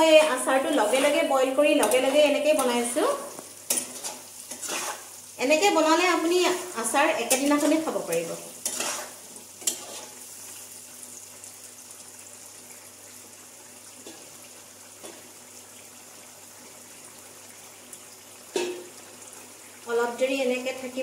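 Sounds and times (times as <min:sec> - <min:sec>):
pickle sizzling and bubbling: 0:00.0 - 0:21.0.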